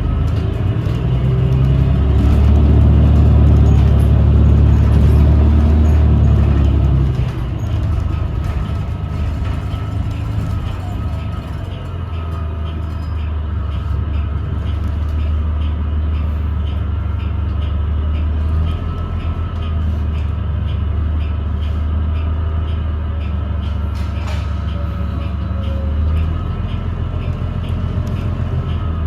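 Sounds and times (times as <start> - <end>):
bus drivetrain rumble: 0.0 - 29.0.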